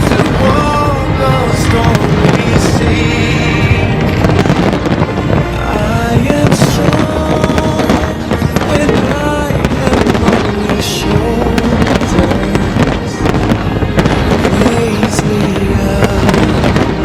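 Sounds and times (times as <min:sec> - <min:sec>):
fireworks bursting and crackling: 0:00.0 - 0:17.0
loud show music: 0:00.0 - 0:17.0.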